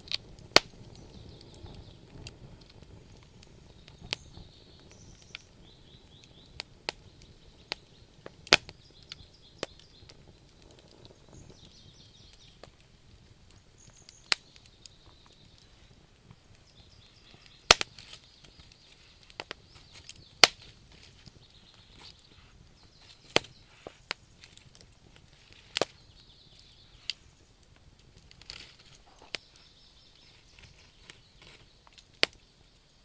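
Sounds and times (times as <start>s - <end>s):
low fire hiss: 0.0s - 33.0s
wood fire crackling and popping: 0.0s - 33.0s.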